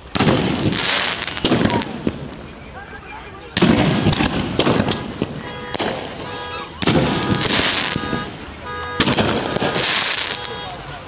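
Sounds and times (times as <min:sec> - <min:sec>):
firework booms with crackling: 0:00.0 - 0:02.4, 0:03.6 - 0:10.6.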